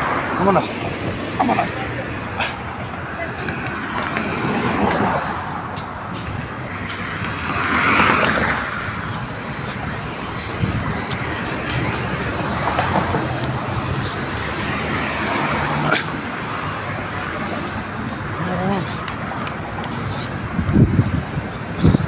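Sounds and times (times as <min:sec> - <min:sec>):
passing cars traffic noise: 0:00.0 - 0:22.0.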